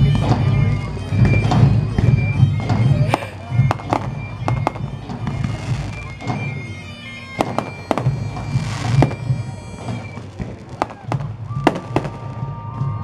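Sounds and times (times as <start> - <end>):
fireworks crackling hiss: 0.0 - 12.7
fireworks bangs: 0.0 - 13.0
music with steady drone: 0.0 - 13.0.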